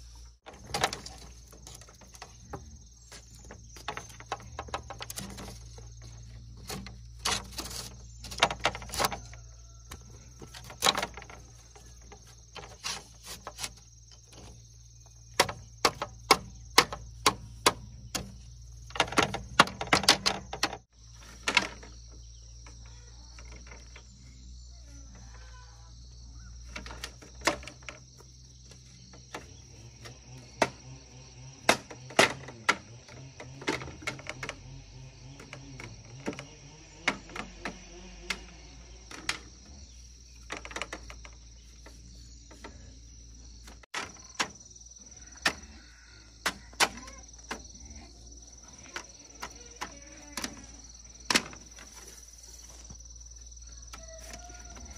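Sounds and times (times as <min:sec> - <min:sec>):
high insect drone: 0:00.0 - 0:54.9
bamboo slats clacking: 0:00.4 - 0:24.1, 0:26.6 - 0:44.7, 0:45.3 - 0:47.8, 0:48.8 - 0:53.0.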